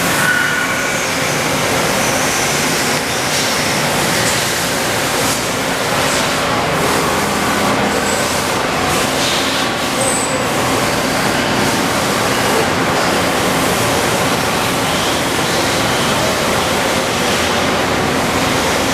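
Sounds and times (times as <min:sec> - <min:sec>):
faint machinery hum: 0:00.0 - 0:18.9.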